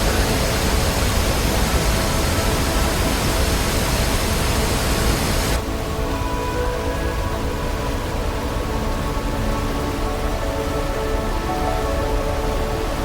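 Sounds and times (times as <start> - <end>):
waterfall rushing water roar: 0.0 - 13.0.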